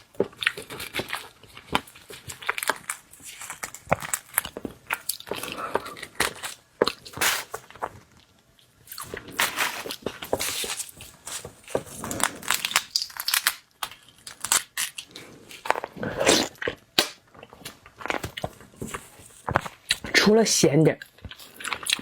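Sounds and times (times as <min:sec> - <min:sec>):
chewing and crunching shrimp: 0:00.0 - 0:20.3, 0:21.0 - 0:22.0.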